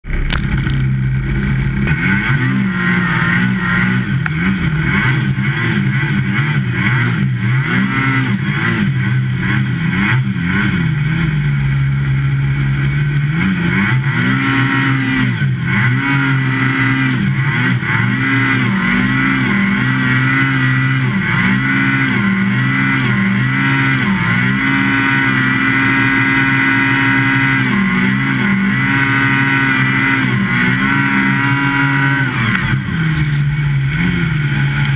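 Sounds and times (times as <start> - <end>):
snowmobile engine revving: 0.1 - 34.9.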